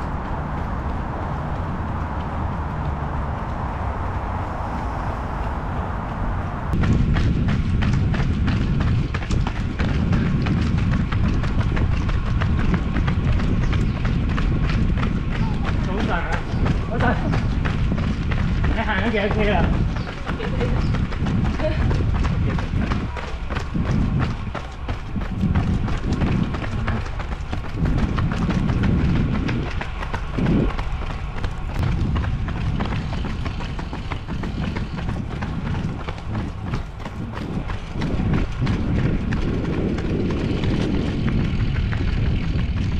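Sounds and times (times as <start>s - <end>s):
running footsteps on wet pavement: 0.0s - 42.9s
wind rumble on microphone: 0.0s - 42.9s.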